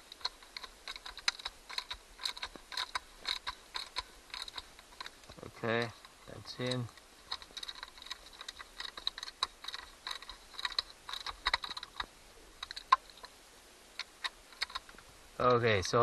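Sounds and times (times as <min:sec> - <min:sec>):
plastic parts clicking: 0:00.0 - 0:13.4, 0:14.0 - 0:16.0.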